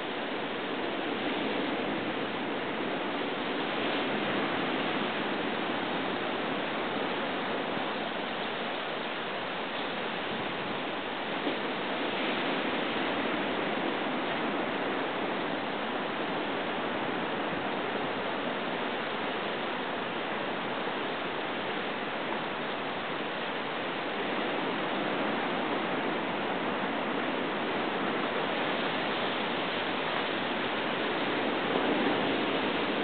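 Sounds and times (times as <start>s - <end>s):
ocean surf breaking on rocks: 0.0s - 33.0s.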